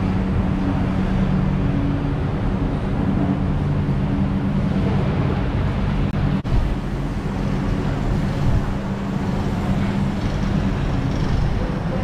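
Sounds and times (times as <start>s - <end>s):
ventilation fans droning: 0.0s - 12.0s.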